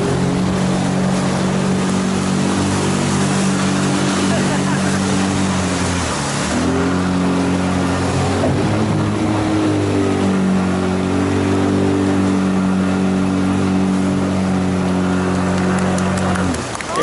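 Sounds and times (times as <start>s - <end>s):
outboard motor running: 0.0s - 17.0s
rushing water: 0.0s - 17.0s
wind: 0.0s - 17.0s.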